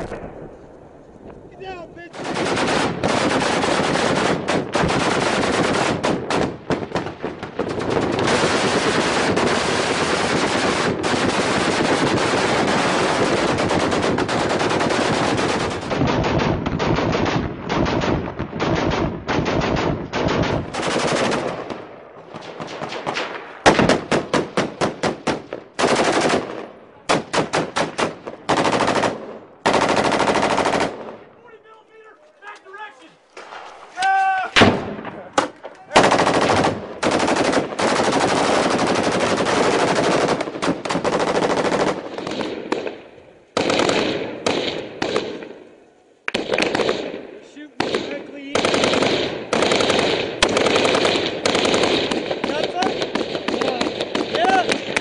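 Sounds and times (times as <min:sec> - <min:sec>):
machine gun firing bursts: 0:02.1 - 0:31.2, 0:34.6 - 0:43.0, 0:43.6 - 0:45.6, 0:46.3 - 0:55.0.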